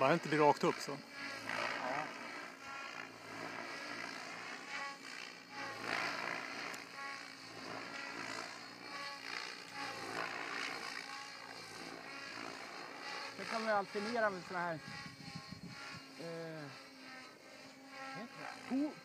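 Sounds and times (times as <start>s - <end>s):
model helicopter rotor whine: 0.0s - 19.0s.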